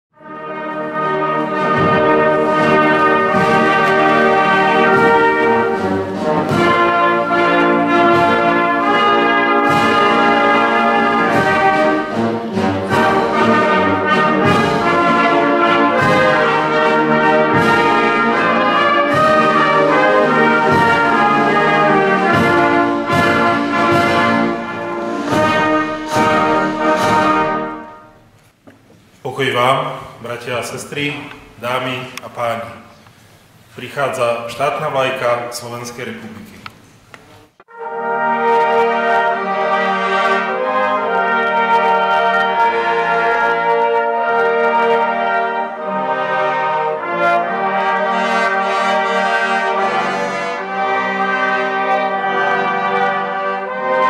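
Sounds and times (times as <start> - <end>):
brass band playing: 0.2 - 28.4, 37.4 - 54.0.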